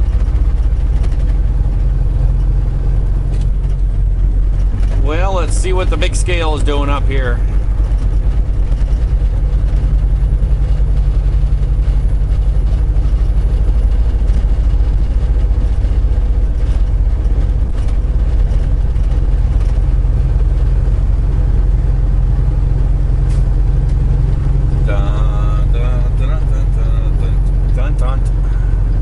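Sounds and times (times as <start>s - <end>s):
truck engine and road noise drone: 0.0s - 29.0s.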